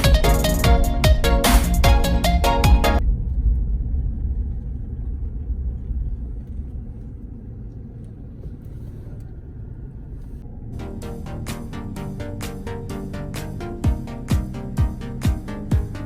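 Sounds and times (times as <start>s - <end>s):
low steady rumbling: 0.2s - 16.0s.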